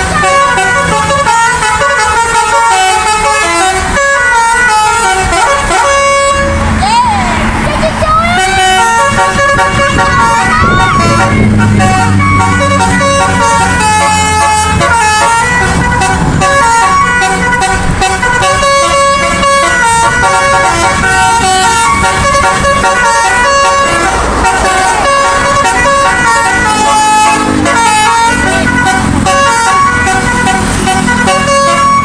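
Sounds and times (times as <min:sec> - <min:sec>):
musical air horn playing a tune: 0:00.0 - 0:06.7, 0:08.3 - 0:32.0
bus engine running: 0:00.0 - 0:32.0.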